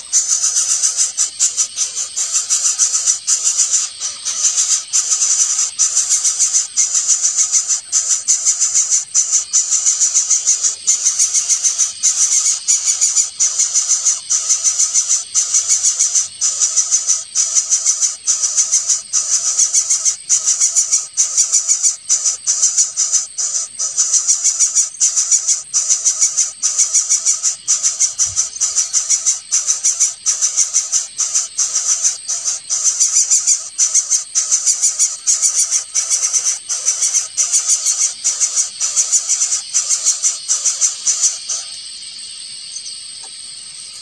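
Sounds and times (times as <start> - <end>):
nestlings begging calls: 0.0 - 41.9.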